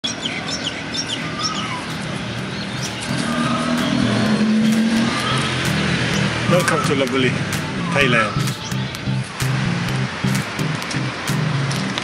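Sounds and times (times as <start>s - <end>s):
birds chirping: 0.0s - 11.9s
steady engine hum: 1.3s - 12.0s.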